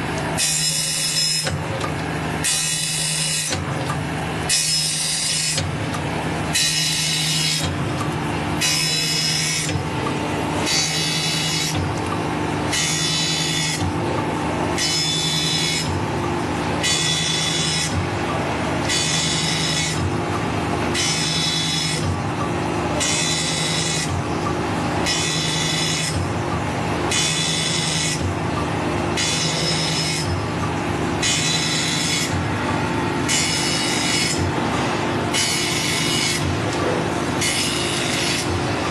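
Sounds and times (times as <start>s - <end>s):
grinding machine motor humming: 0.0s - 38.9s.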